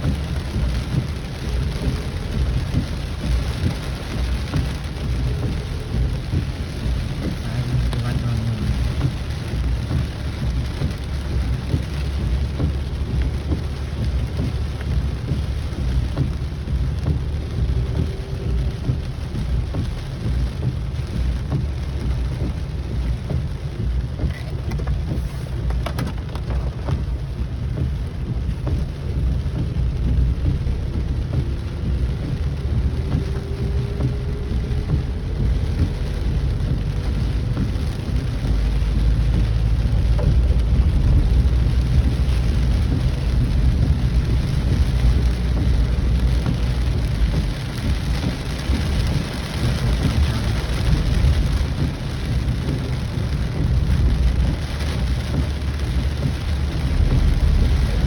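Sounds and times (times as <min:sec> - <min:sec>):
heavy rain: 0:00.0 - 0:58.0
low rumble: 0:00.0 - 0:58.0.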